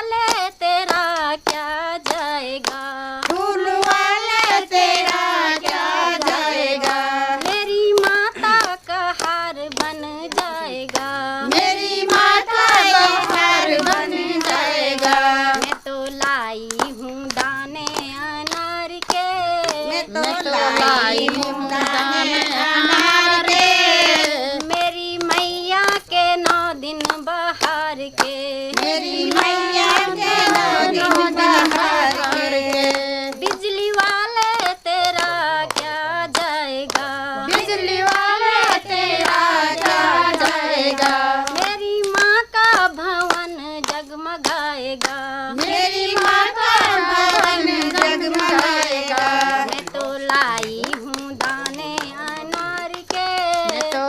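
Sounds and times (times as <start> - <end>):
hands clapping along: 0.0 - 54.0
woman singing folk song: 0.0 - 54.0.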